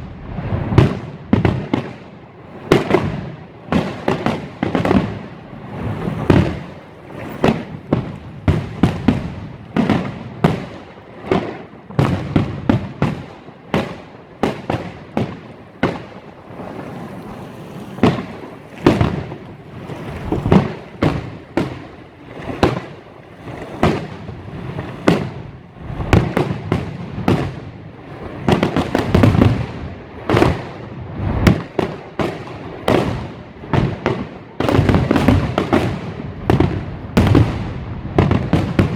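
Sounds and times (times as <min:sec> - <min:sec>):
fireworks exploding: 0:00.0 - 0:38.9.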